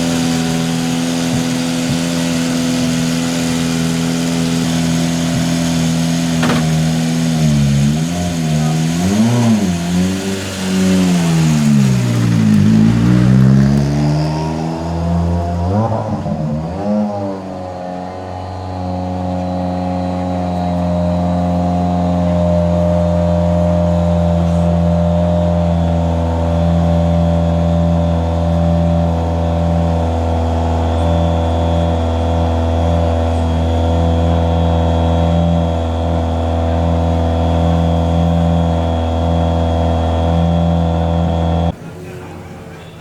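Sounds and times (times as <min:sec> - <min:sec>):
engine droning with whine: 0:00.0 - 0:43.0.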